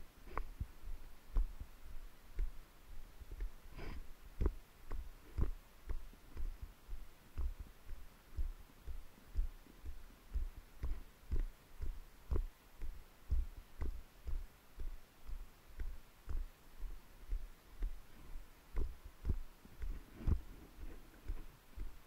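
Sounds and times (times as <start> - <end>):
footsteps with dull thuds: 0.0 - 22.0.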